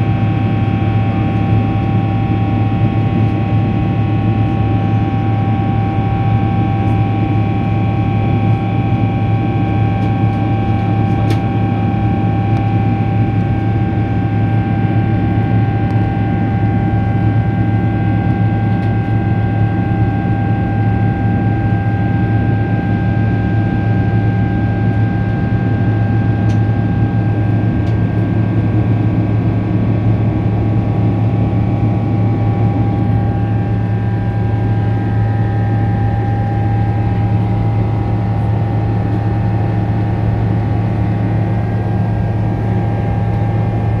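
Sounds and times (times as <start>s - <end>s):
jet engine cabin drone: 0.0s - 44.0s.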